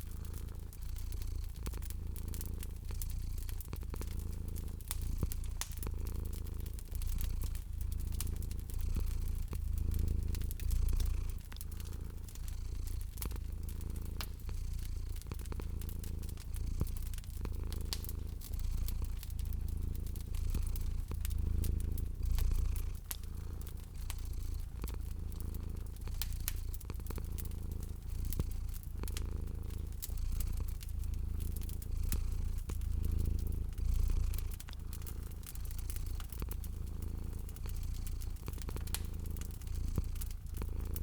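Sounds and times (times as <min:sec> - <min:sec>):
cat purring: 0:00.0 - 0:41.0
fire crackling and popping: 0:00.0 - 0:41.0.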